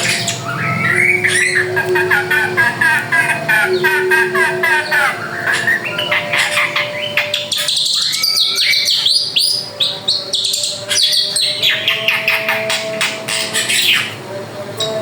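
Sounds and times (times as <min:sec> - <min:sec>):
bird singing varied chirps: 0:00.0 - 0:15.0.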